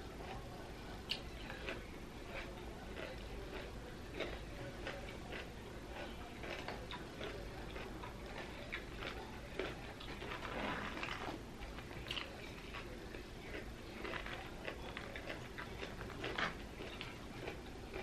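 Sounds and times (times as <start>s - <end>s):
crunchy wet chewing: 0.1s - 18.0s.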